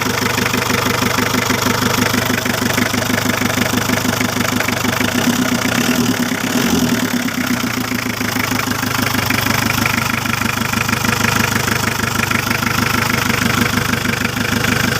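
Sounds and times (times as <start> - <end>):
engine idling with knocking clatter: 0.0 - 14.9.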